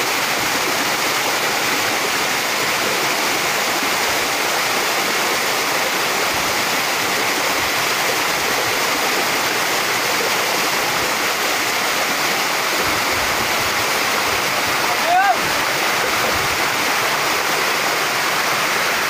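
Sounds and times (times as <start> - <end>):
small waterfall splashing: 0.0 - 19.0.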